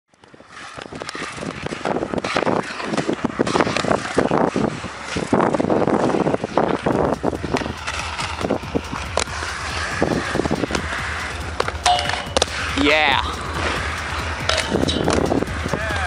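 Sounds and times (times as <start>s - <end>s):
inline skate wheels rolling on concrete: 0.1s - 16.0s.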